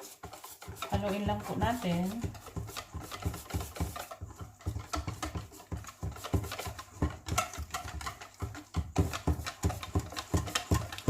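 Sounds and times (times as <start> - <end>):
utensil knocking against bowl: 0.2 - 11.0.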